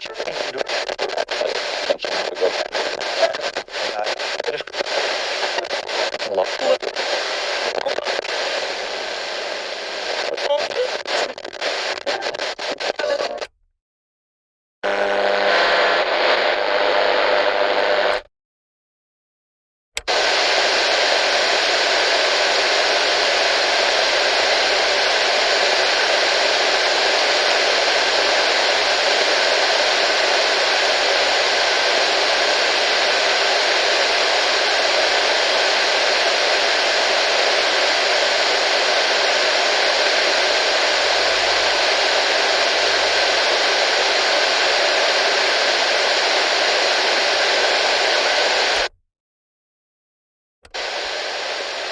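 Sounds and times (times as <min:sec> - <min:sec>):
faint tones in static: 0:00.0 - 0:13.6, 0:20.1 - 0:48.8
radio static hiss: 0:00.0 - 0:13.6, 0:14.8 - 0:18.3, 0:20.0 - 0:48.9, 0:50.7 - 0:51.9.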